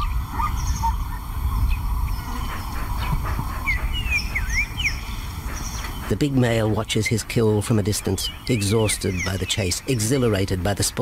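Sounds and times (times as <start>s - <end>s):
birds chirping whistles: 0.0s - 11.0s
steady low rumble: 0.0s - 11.0s.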